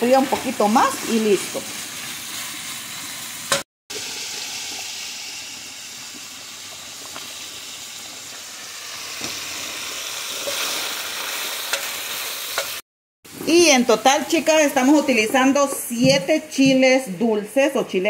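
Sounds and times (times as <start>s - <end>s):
chicken sizzling in a frying pan: 0.0s - 15.1s.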